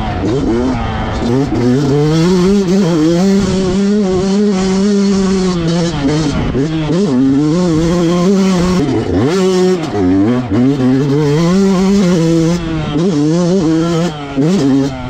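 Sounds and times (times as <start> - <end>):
motocross bike engine revving: 0.0 - 15.0
wind and track noise: 0.0 - 15.0.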